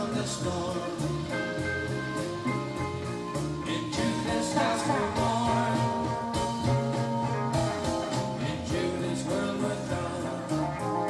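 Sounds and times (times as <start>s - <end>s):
electric guitar: 0.0s - 11.0s
held bass notes: 0.0s - 11.0s
rock music recording: 0.0s - 11.0s.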